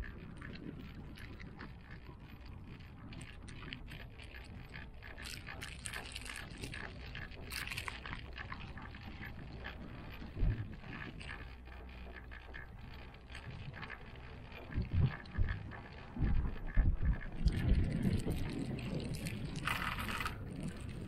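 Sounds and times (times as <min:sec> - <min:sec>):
cable car cabin rumble: 0:00.0 - 0:21.0
clicks and rattles: 0:00.2 - 0:21.0.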